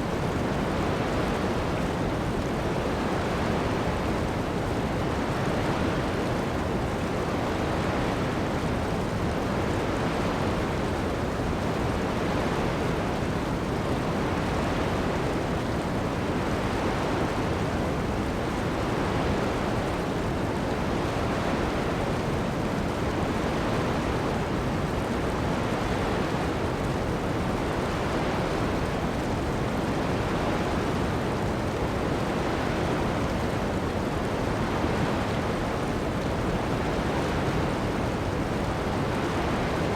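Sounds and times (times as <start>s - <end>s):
heavy rain on sand: 0.0s - 39.9s
ocean surf: 0.0s - 39.9s.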